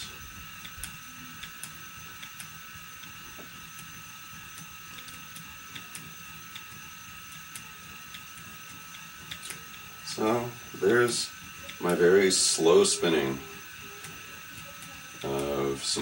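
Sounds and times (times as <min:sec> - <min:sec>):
electric motor whine: 0:00.0 - 0:16.0
faint irregular ticks: 0:00.0 - 0:16.0.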